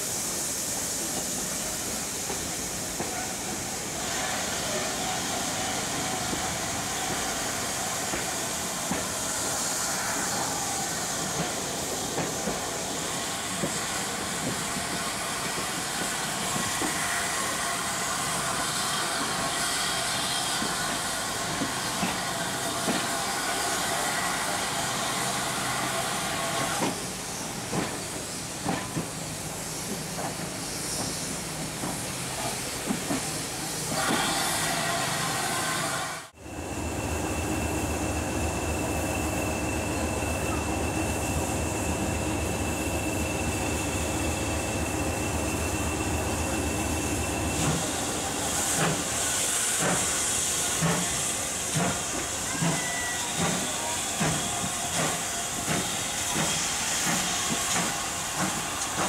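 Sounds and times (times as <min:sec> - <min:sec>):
train rushing along: 0:00.0 - 0:59.0.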